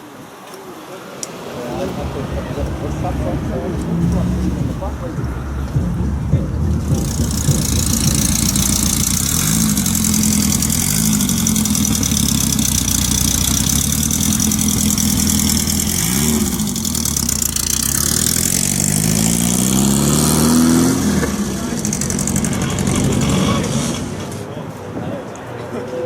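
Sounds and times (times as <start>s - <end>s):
car engine revving: 1.4s - 24.6s.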